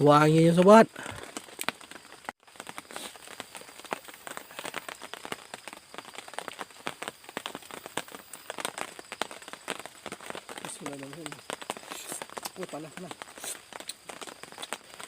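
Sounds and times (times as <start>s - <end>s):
rain hiss: 0.0s - 15.0s
raindrops ticking on a surface: 0.0s - 15.0s.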